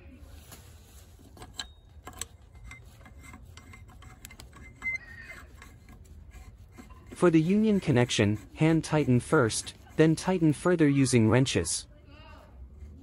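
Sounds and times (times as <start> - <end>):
light rubbing of hands on valve: 1.0 - 11.8.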